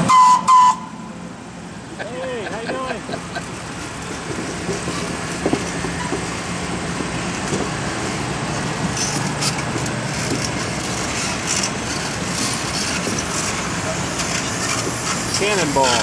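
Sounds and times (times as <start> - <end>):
passenger train rumbling by: 0.0 - 16.0
low engine hum: 0.8 - 15.3.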